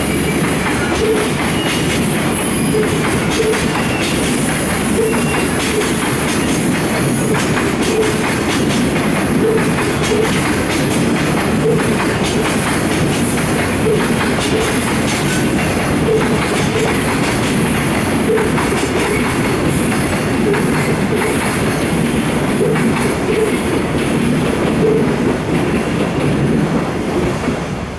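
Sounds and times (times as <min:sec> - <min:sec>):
wheels clattering over rail joints: 0:00.0 - 0:26.6
freight train rumbling past: 0:00.0 - 0:27.9.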